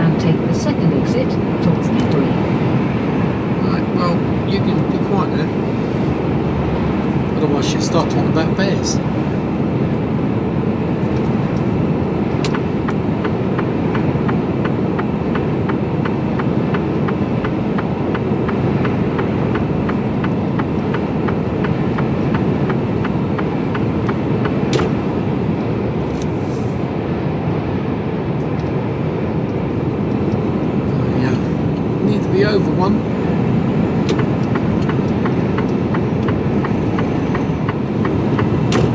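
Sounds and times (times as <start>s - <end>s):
turn indicator ticking: 0.0s - 9.2s, 10.9s - 26.4s, 28.4s - 38.9s
lorry engine and road noise: 0.0s - 38.9s.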